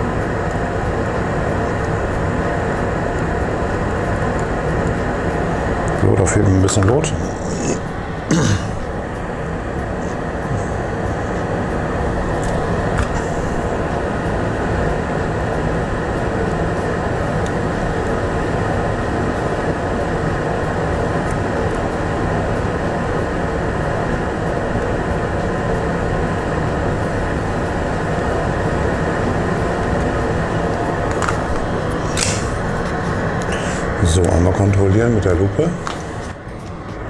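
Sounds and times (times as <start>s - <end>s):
extractor fan running: 0.0s - 37.0s.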